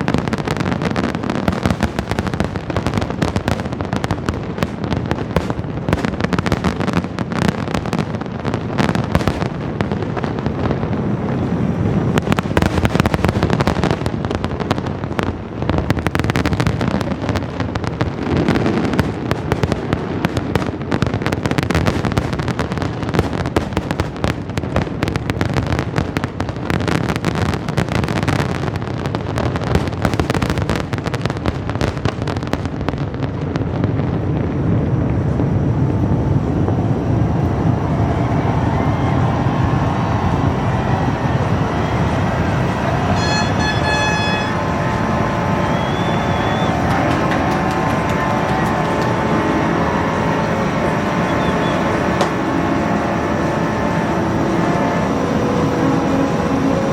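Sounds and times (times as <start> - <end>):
fireworks exploding: 0.0 - 56.9.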